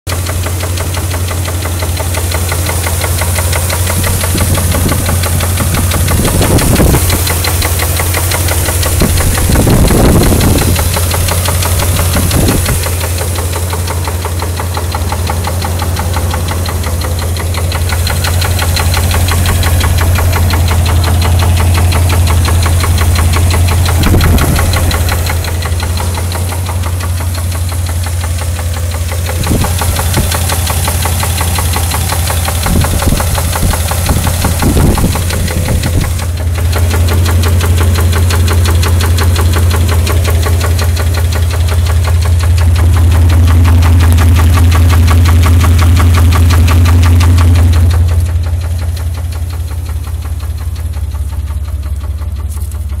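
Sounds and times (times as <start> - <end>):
engine idling with rhythmic knock: 0.0 - 53.0.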